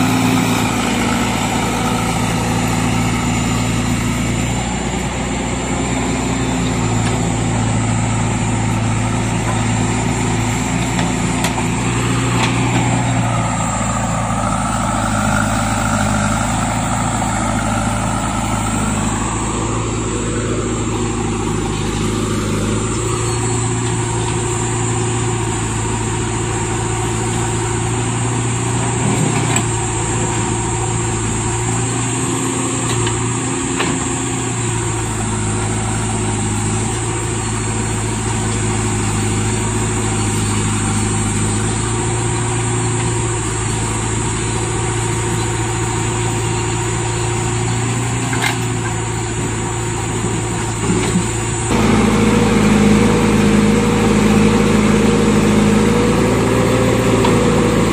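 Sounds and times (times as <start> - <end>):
backhoe loader engine working: 0.0 - 57.9
tractor diesel engine idling: 0.0 - 57.9.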